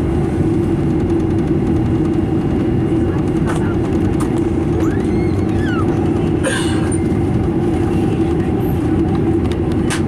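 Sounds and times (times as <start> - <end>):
aircraft engines low rumble: 0.0 - 10.0.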